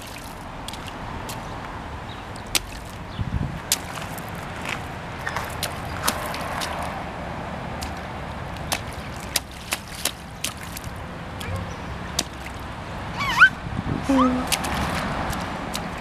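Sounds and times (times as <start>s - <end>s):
boots splashing in puddle: 0.0s - 12.7s, 14.1s - 16.0s.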